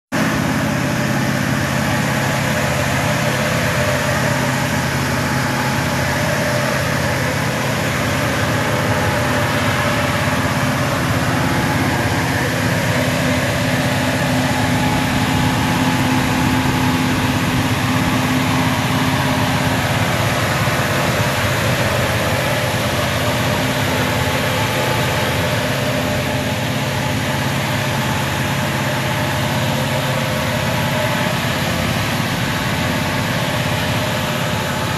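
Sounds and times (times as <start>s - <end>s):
pickup engine idling: 0.1s - 34.9s.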